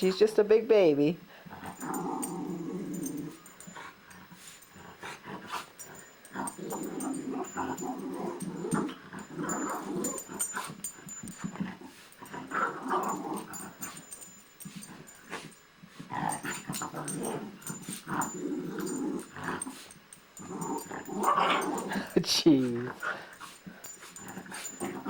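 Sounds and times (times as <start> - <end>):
dogs growling: 1.4 - 25.0.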